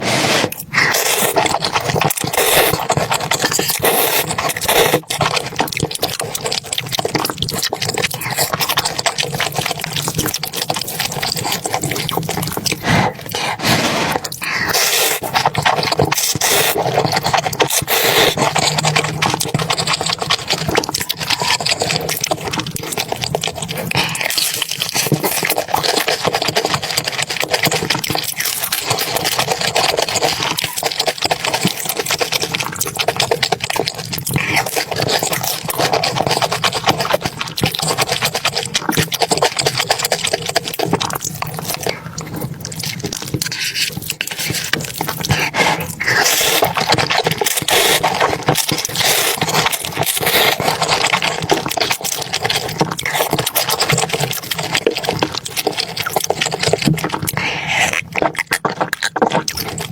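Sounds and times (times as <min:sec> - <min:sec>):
food crackling: 0:00.0 - 0:59.9.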